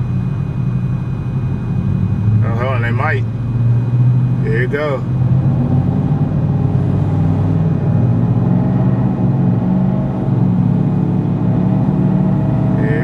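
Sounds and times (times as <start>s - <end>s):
car engine running inside cabin: 0.0s - 13.0s.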